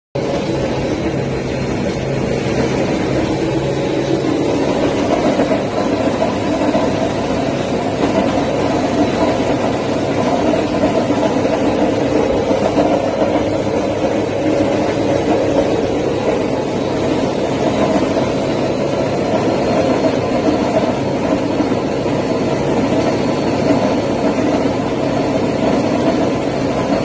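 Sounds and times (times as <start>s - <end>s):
pellet mill machine hum: 0.2s - 27.0s.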